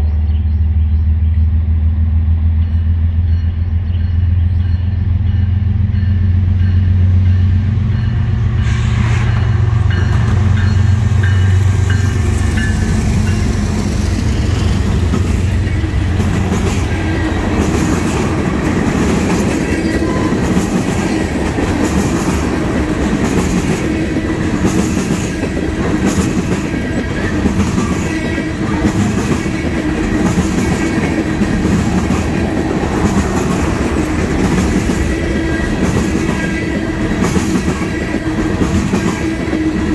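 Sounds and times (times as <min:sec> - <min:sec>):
diesel locomotive engines droning: 0:00.0 - 0:39.9
train wheel noise: 0:00.0 - 0:39.9.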